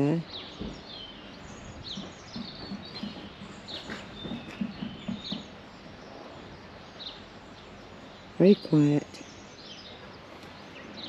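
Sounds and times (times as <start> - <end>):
songbirds chirping and singing: 0.0 - 11.0
steady background hiss: 0.0 - 11.0.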